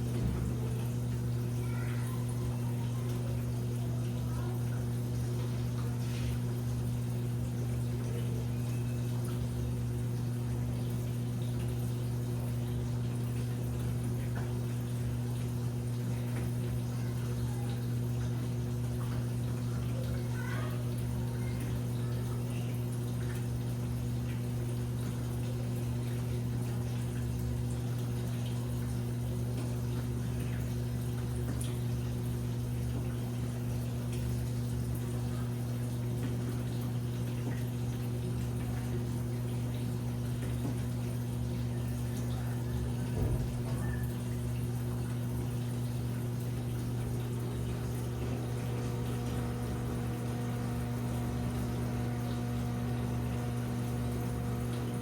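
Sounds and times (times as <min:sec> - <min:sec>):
washing machine humming: 0:00.0 - 0:55.0
water moving inside machine: 0:00.0 - 0:55.0.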